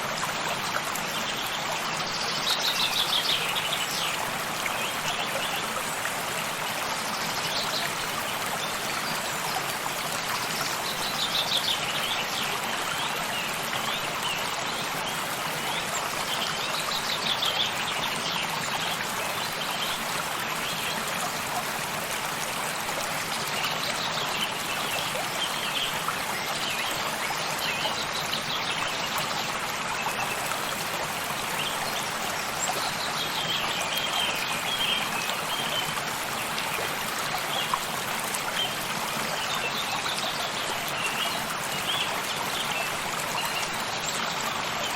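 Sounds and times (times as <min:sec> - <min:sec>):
stream rushing and trickling: 0:00.0 - 0:44.9.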